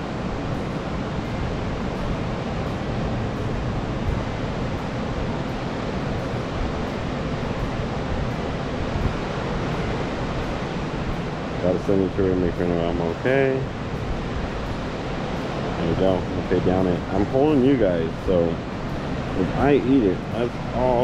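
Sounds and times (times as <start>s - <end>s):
surf breaking on rocky shore: 0.0s - 21.0s.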